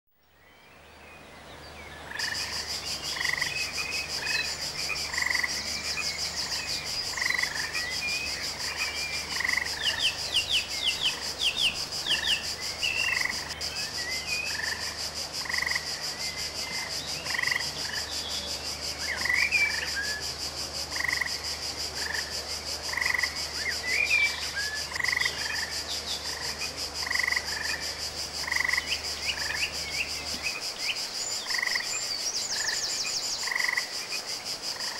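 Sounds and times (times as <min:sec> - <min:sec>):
frogs croaking: 0:00.2 - 0:34.9.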